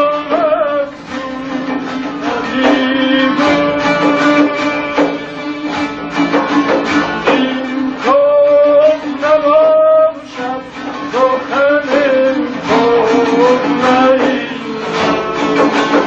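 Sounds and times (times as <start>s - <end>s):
long-necked lute strummed: 0.0s - 16.0s.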